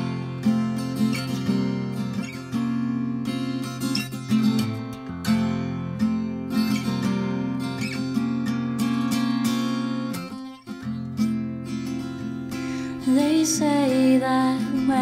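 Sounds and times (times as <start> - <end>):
fingerstyle acoustic guitar: 0.0 - 15.0.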